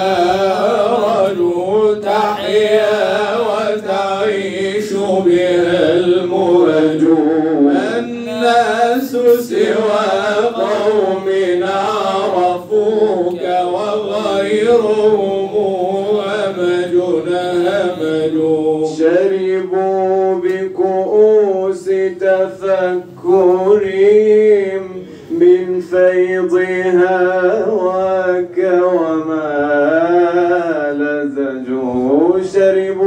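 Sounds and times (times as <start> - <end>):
man singing unaccompanied: 0.0 - 33.0.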